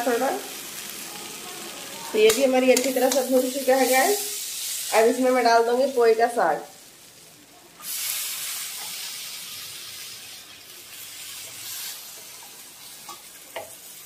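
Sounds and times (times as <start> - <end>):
leaves sizzling in hot oil: 0.0 - 14.0.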